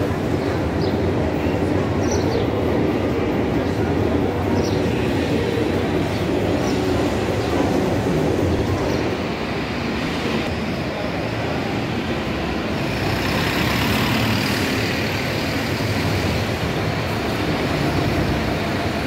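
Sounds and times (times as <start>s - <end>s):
diesel buses idling: 0.0s - 19.0s.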